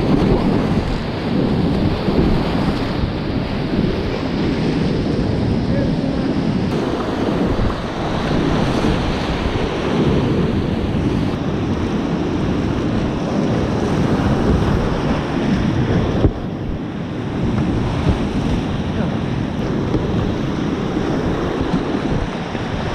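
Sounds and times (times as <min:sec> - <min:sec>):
whitewater rushing and splashing: 0:00.0 - 0:22.9
wind buffeting microphone: 0:00.0 - 0:22.9.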